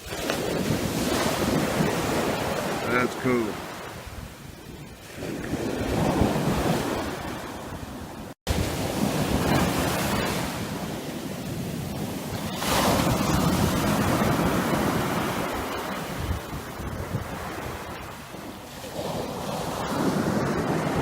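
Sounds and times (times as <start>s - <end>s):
surf washing up a sandy beach: 0.0s - 21.0s
waves breaking: 0.0s - 21.0s
wind buffeting microphone: 0.0s - 21.0s.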